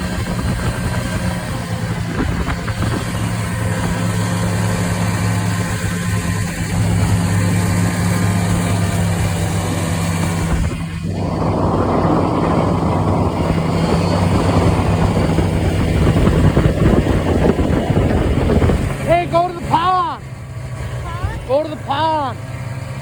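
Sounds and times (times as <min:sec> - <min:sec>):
loud rushing noise: 0:00.0 - 0:23.0
snowmobile engine running: 0:00.0 - 0:23.0.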